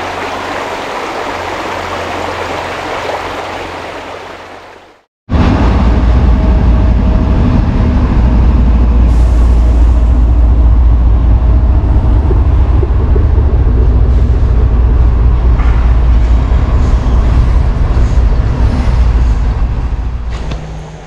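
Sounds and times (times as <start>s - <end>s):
road vehicle rumbling: 0.0s - 21.0s.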